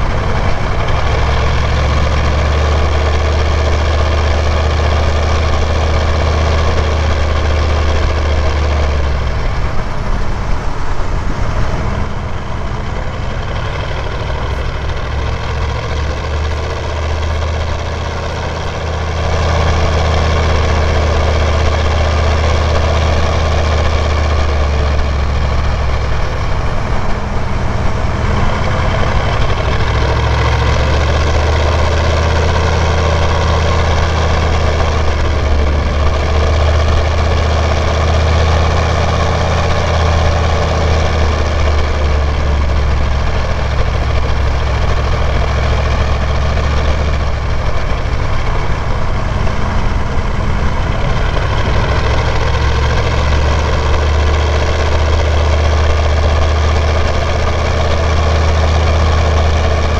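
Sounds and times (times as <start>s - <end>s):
diesel truck engine pulling uphill: 0.0s - 59.9s.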